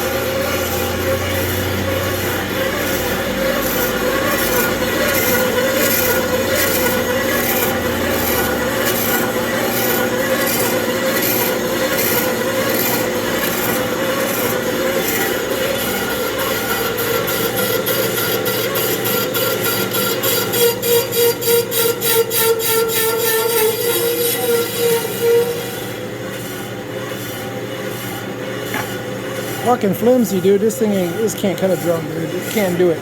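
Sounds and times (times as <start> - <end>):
lathe bit scraping brake drum: 0.0 - 33.0.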